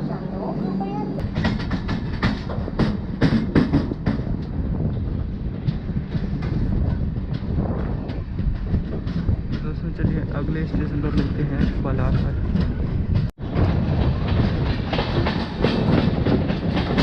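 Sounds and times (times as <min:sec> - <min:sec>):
train running rumble: 0:00.0 - 0:17.0
train wheels clattering over rail joints: 0:01.2 - 0:17.0.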